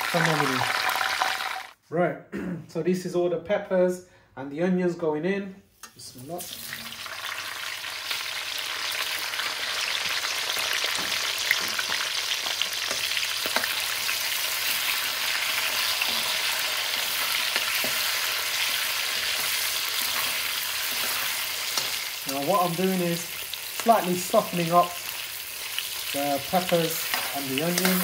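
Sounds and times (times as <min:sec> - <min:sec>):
vegetables sizzling in hot oil: 0:00.0 - 0:01.8, 0:06.4 - 0:28.0.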